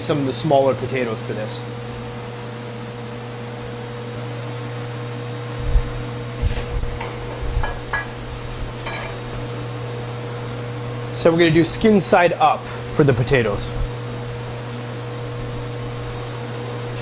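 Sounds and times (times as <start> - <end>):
ventilation fan hum: 0.0 - 17.0.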